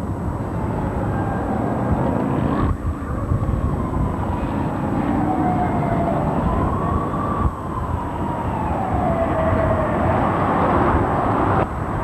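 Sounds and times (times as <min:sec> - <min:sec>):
engine rumble with whine: 0:00.0 - 0:12.0.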